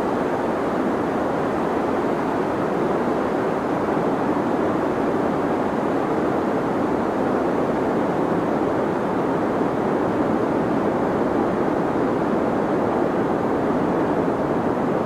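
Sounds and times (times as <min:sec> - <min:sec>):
deep white noise hiss: 0:00.0 - 0:15.0.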